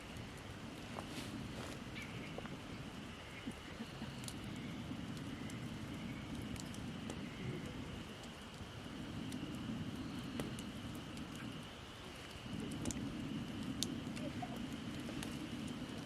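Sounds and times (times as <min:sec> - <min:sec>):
campfire flames rushing: 0:00.0 - 0:16.0
wood crackling and popping: 0:00.0 - 0:16.0.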